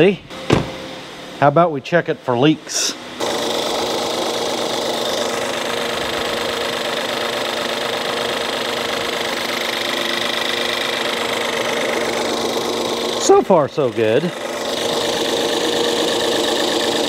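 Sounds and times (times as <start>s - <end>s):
car engine idling: 2.9s - 17.0s.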